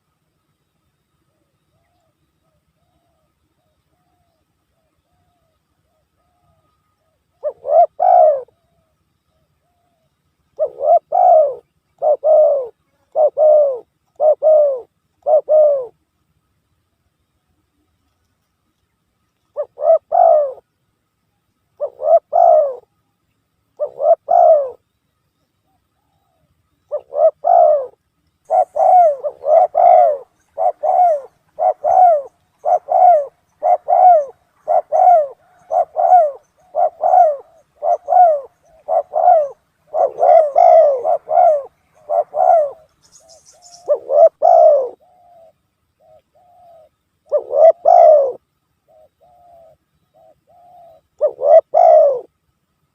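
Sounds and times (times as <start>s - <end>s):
dove cooing: 1.2s - 16.0s, 19.5s - 20.7s, 21.8s - 23.0s, 23.8s - 24.8s, 25.7s - 52.4s.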